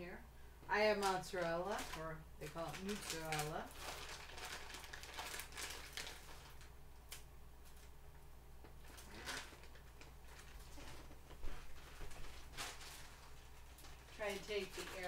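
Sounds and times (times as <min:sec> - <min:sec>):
plastic bag rustling: 0:00.8 - 0:08.0, 0:08.8 - 0:15.0.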